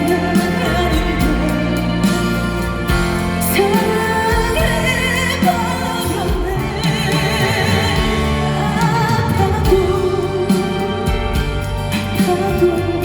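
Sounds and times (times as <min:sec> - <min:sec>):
band accompaniment: 0:00.0 - 0:13.0
woman singing with vibrato: 0:00.0 - 0:13.0.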